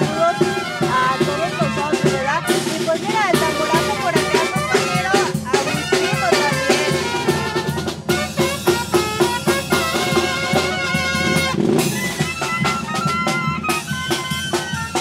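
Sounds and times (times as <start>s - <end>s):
bass drum beat: 0.0s - 15.0s
brass band melody: 0.0s - 15.0s.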